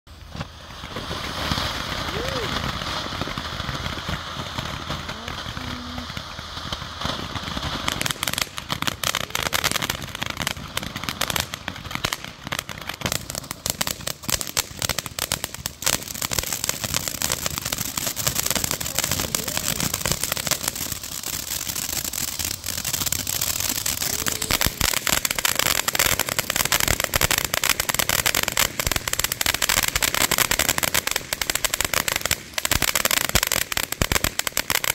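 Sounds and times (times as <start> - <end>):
firework spraying sparks: 0.2 - 34.9.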